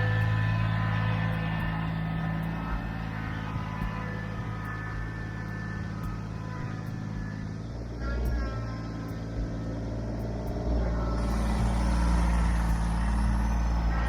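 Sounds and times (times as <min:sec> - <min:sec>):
small diesel engine under load: 0:00.0 - 0:14.0.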